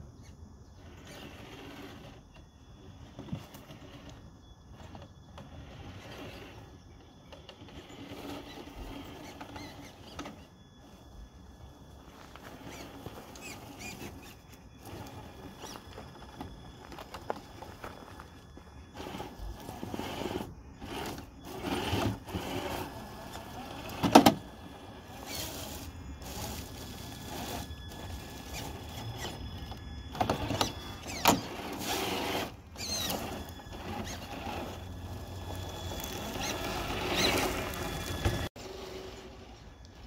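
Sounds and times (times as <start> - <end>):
electric motor and gears whining: 0.0 - 40.0.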